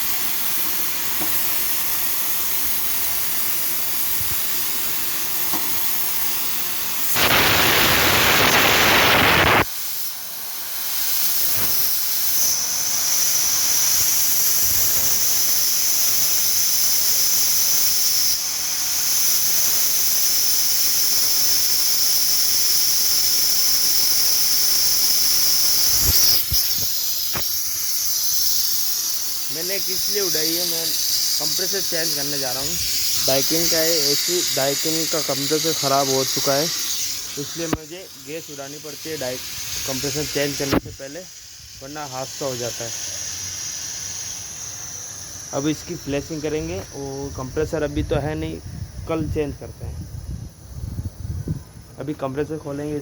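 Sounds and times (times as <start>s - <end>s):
refrigerant gas hissing: 0.0s - 53.0s.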